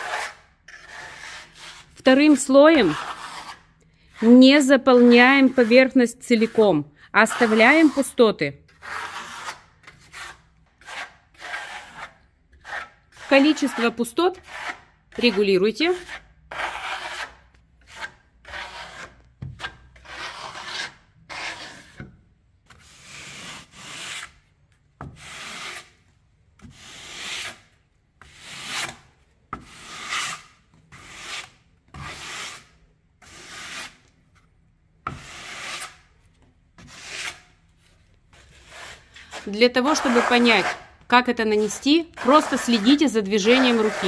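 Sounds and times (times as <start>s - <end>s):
steel trowel scraping plaster: 0.0s - 22.1s, 22.7s - 24.5s, 25.1s - 26.0s, 26.6s - 34.2s, 35.1s - 36.1s, 36.8s - 37.6s, 38.3s - 44.0s.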